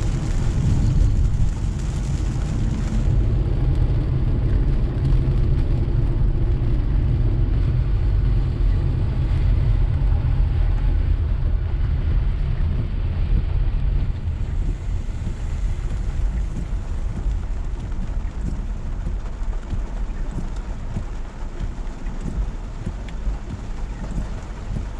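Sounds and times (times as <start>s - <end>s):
rain hissing on car: 0.0s - 24.9s
tyres rumbling on road: 0.0s - 24.9s.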